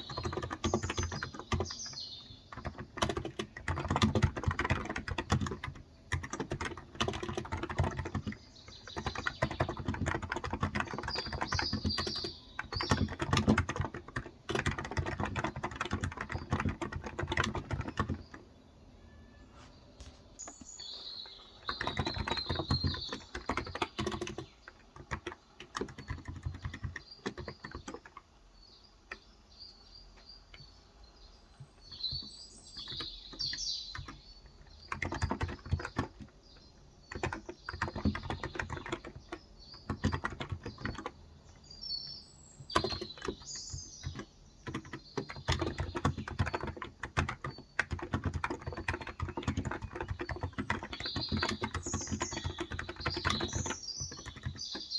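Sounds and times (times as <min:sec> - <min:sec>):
keyboard typing: 0:00.0 - 0:18.5, 0:20.0 - 0:28.3, 0:31.8 - 0:41.6, 0:42.6 - 0:54.9
birds chirping: 0:00.0 - 0:54.9.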